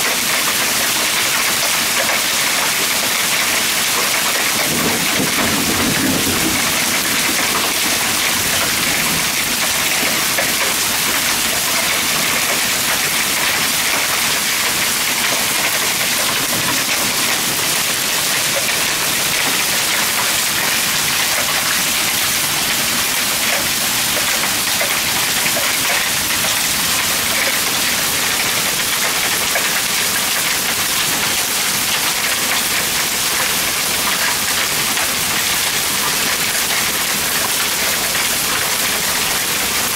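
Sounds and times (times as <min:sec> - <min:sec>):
hail and heavy rain pelting: 0:00.0 - 0:39.9.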